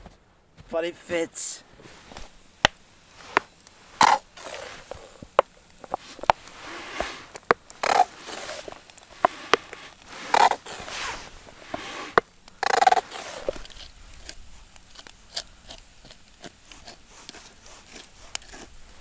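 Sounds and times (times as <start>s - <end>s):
scraping and crunching: 1.8s - 19.0s.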